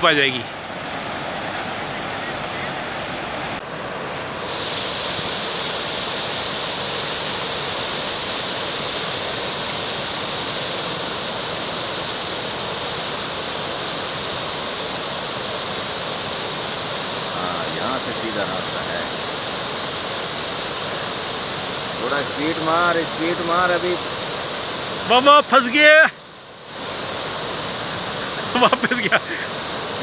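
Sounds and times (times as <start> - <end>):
fast-flowing stream rushing: 0.0 - 30.0.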